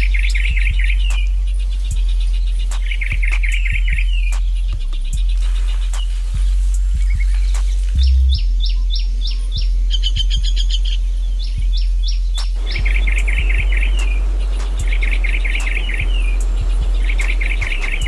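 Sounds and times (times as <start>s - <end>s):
birds chirping: 0.0s - 18.0s
steady low hum: 0.0s - 18.0s
trilling bird calls: 0.0s - 18.0s.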